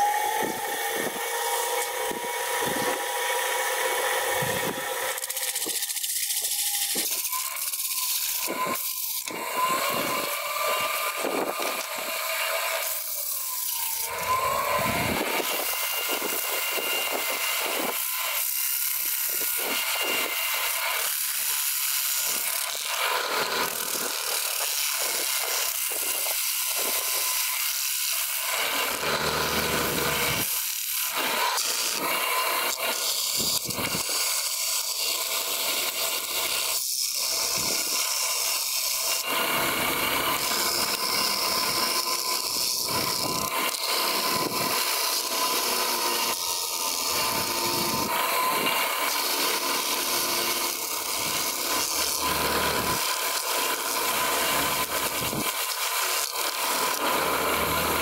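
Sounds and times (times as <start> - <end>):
lathe motor whine: 0.0 - 58.0.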